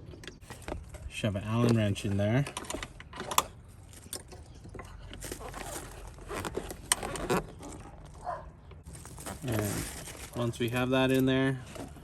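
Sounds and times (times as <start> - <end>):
scrapes and rustles: 0.4 - 12.0.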